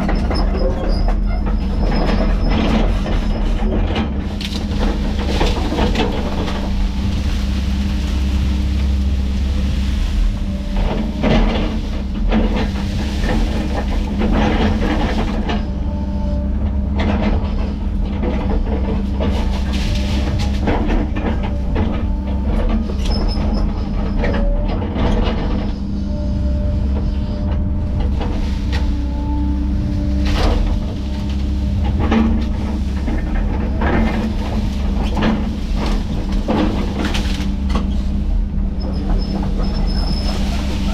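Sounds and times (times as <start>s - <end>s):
excavator diesel drone: 0.0s - 40.9s
machine squealing: 0.0s - 40.9s.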